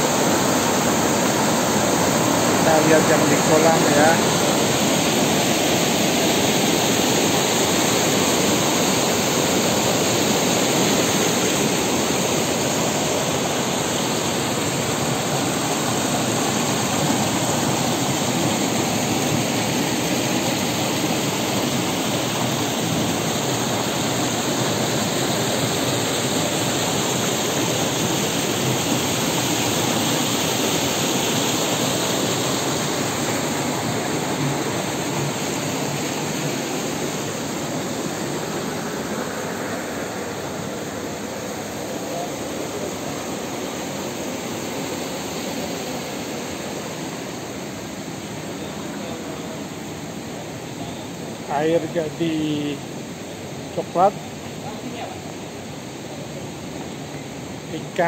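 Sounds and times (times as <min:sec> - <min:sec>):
flooded river roaring: 0:00.0 - 0:58.0.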